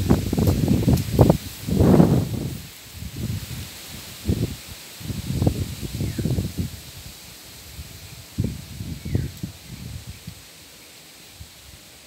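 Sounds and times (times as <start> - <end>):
wind rumbling on microphone: 0.0 - 10.5
high hiss: 0.0 - 12.0.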